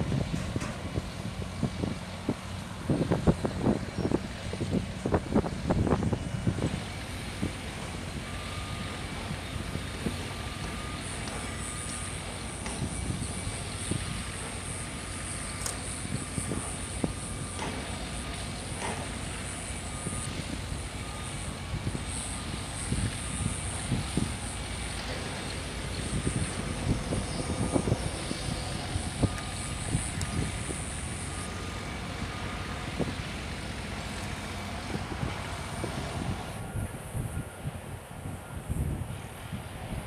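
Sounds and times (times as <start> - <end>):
distant heavy machinery rumble: 0.0 - 40.0.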